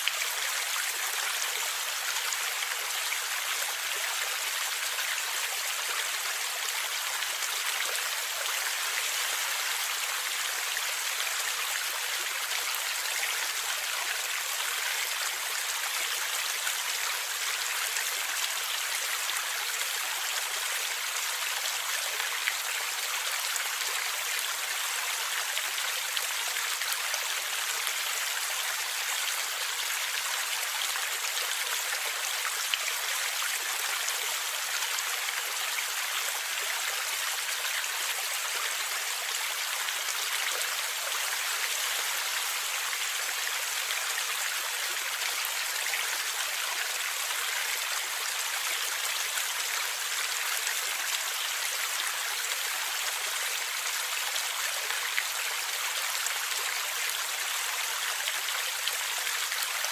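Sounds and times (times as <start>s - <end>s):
stream gurgling over rocks: 0.0s - 59.9s.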